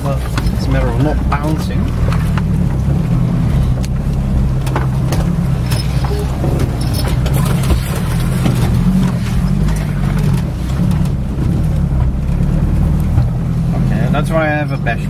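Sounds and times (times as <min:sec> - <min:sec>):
light knocks and rattles: 0:00.0 - 0:13.6
van engine running: 0:00.0 - 0:15.0.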